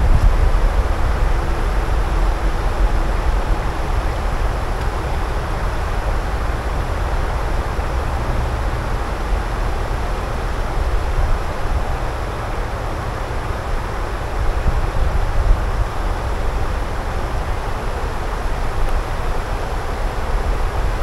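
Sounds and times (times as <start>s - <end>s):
distant road traffic: 0.0s - 21.0s
wind rumbling on microphone: 0.0s - 21.0s.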